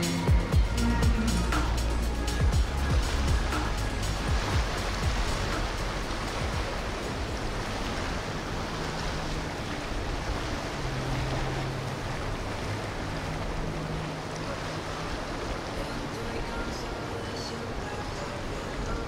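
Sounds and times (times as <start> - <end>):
low engine drone: 0.0 - 19.0
water rushing along a hull: 0.0 - 19.0.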